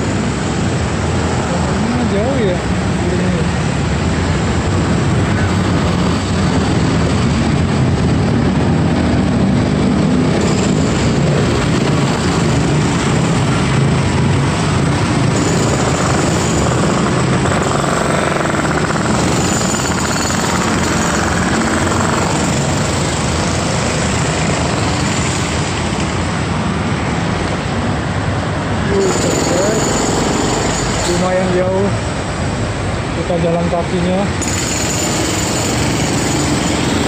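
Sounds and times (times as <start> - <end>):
heavy road traffic passing: 0.0 - 37.0.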